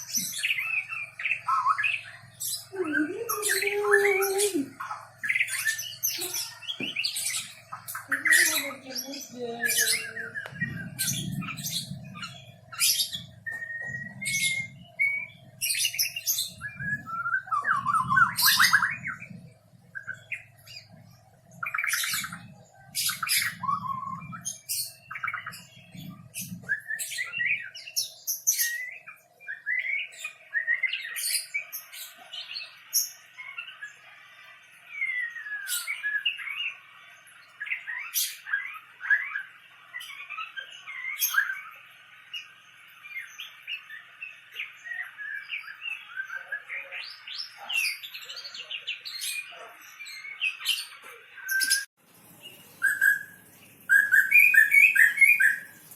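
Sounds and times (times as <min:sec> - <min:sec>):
bird singing whistles and trills: 0:00.0 - 0:34.2, 0:34.9 - 0:55.9.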